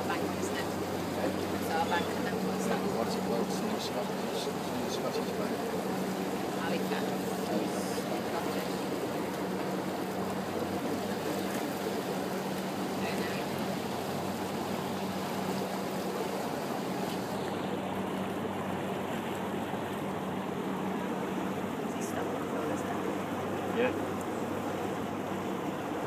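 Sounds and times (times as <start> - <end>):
boat engine humming: 0.0 - 26.0
water wash: 0.0 - 26.0.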